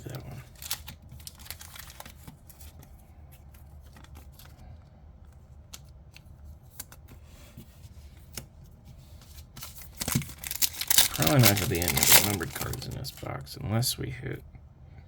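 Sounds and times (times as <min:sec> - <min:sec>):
trading cards being handled: 0:00.0 - 0:04.7, 0:05.3 - 0:13.3
faint clicks and rustles: 0:00.4 - 0:13.3.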